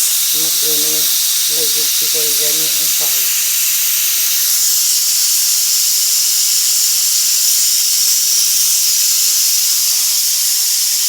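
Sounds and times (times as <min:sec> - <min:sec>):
pressure cooker hissing steam: 0:00.0 - 0:11.0.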